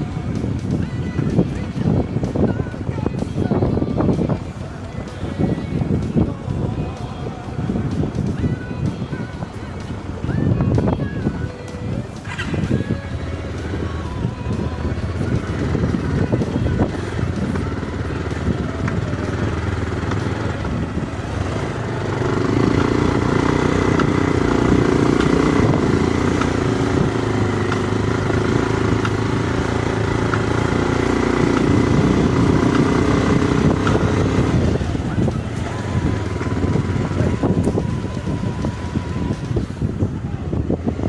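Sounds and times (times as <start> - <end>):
motorcycle engine running: 0.0 - 41.0
road and wind noise: 0.0 - 41.0.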